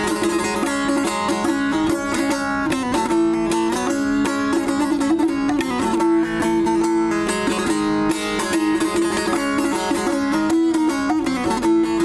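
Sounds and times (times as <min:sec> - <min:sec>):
plucked string instrument music: 0:00.0 - 0:12.0.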